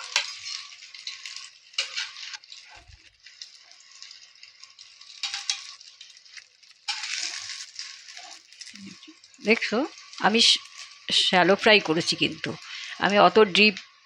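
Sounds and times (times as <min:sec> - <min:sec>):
oil sizzling in a frying pan: 0:00.0 - 0:14.0.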